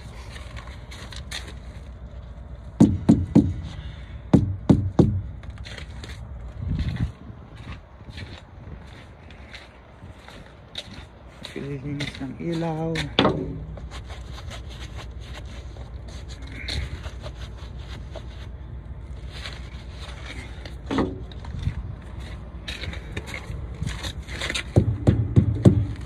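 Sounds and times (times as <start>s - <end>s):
footsteps crunching on frozen gravel: 0.0s - 2.8s, 5.4s - 25.0s.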